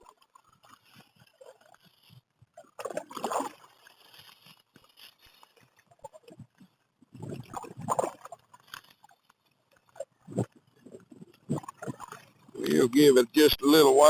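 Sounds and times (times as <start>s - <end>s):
water sloshing against a hull: 0.0s - 12.8s.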